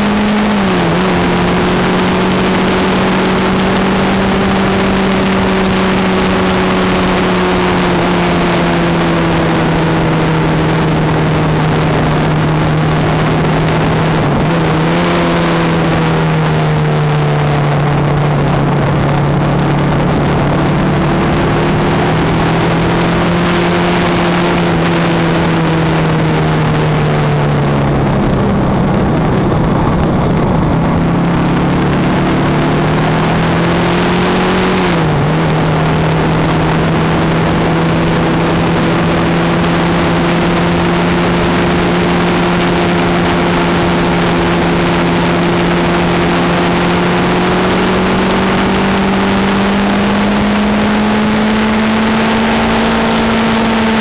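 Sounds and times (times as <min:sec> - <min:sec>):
motorcycle engine running: 0:00.0 - 0:54.0
wind rush over microphone: 0:00.0 - 0:54.0.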